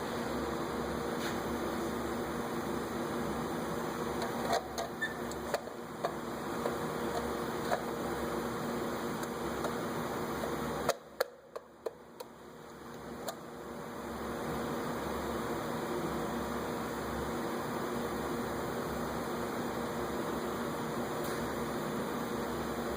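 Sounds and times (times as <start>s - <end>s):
steady mechanical hum: 0.0s - 22.9s.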